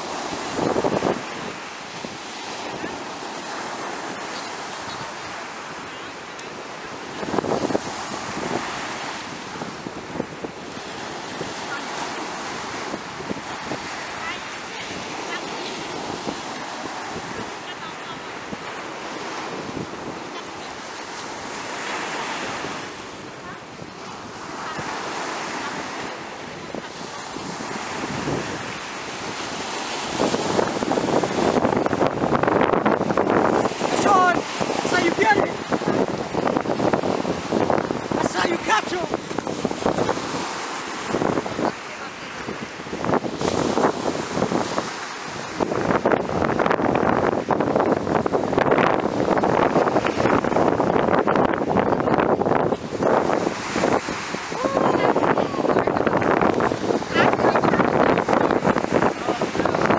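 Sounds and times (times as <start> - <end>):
ocean surf breaking on beach: 0.0 - 59.9
wind on microphone: 0.0 - 59.9.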